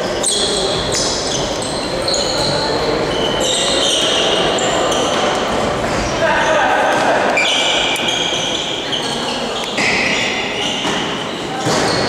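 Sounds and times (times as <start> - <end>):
echoing sports hall din: 0.0 - 12.0
shoes squeaking on gym floor: 0.0 - 12.0.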